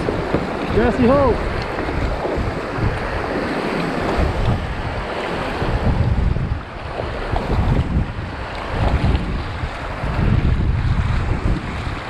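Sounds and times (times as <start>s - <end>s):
river rushing and splashing: 0.0s - 12.0s
wind rumbling on microphone: 0.0s - 12.0s.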